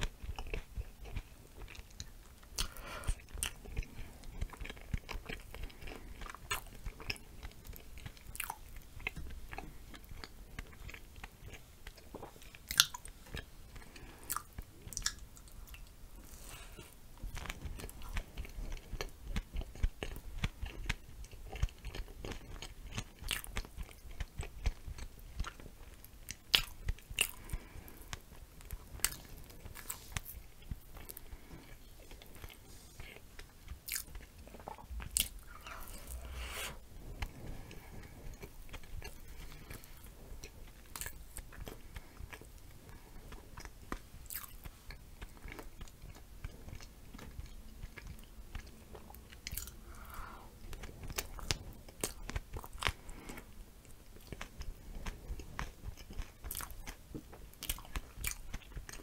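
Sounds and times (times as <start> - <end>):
chewing and biting: 0.0 - 36.3, 37.1 - 59.0.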